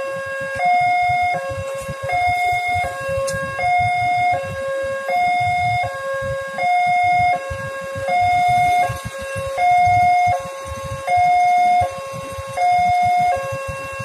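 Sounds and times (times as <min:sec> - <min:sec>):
level crossing two-tone alarm: 0:00.0 - 0:14.0
low traffic rumble: 0:00.0 - 0:14.0.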